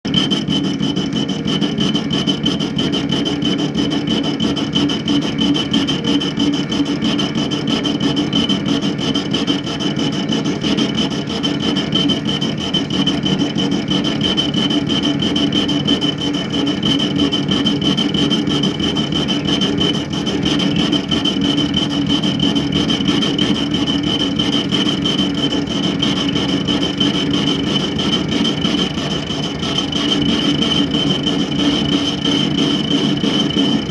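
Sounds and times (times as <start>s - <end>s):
lathe whining: 0.1s - 33.9s.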